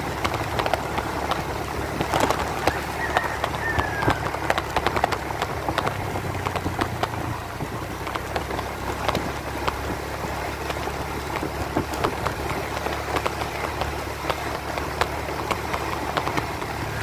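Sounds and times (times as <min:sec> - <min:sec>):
sharp clicks and rattles: 0:00.0 - 0:17.0
vehicle engine drone: 0:00.0 - 0:17.0.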